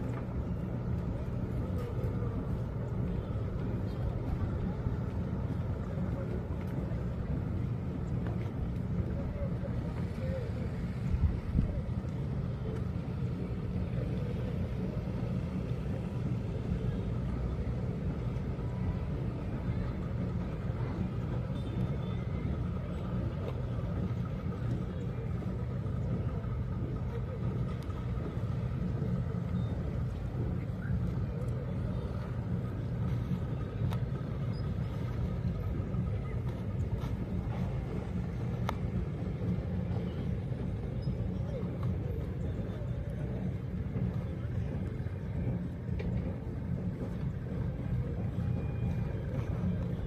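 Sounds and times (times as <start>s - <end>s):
steady low rumble: 0.0s - 50.0s.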